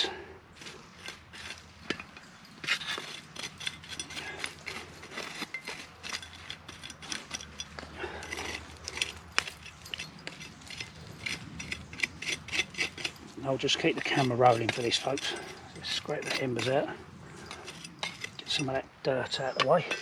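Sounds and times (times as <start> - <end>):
raking embers and sticks: 0.0 - 20.0.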